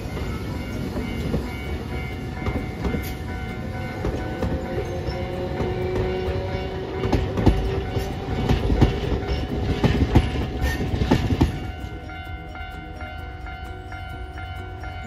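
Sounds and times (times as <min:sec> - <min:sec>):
background music: 0:00.0 - 0:15.0
tram rumble: 0:00.0 - 0:15.0
tram wheels clacking over rail joints: 0:00.0 - 0:15.0.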